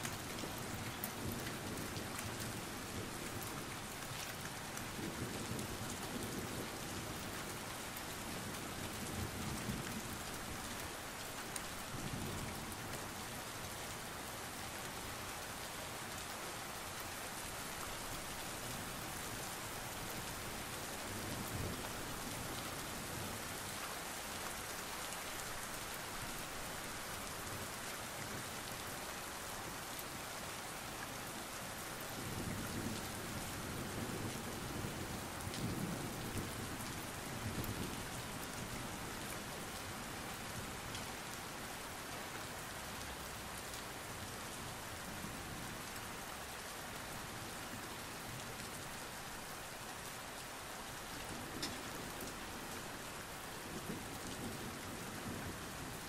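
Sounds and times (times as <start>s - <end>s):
rain on hard surfaces: 0.0s - 56.0s.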